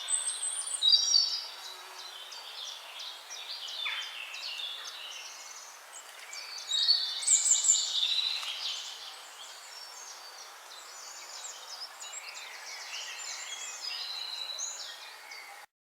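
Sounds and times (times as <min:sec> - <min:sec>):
songbirds chirping: 0:00.0 - 0:15.7.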